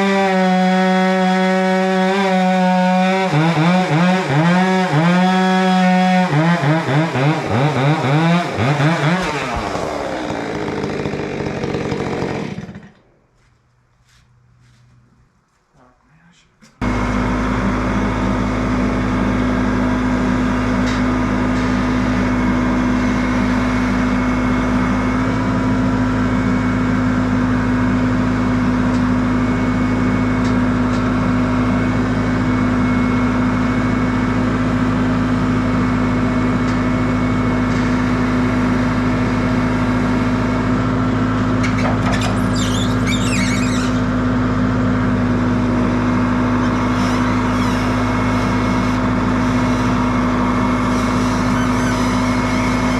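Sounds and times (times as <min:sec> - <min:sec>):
sawmill engine running: 0:00.0 - 0:15.1, 0:16.7 - 0:52.9.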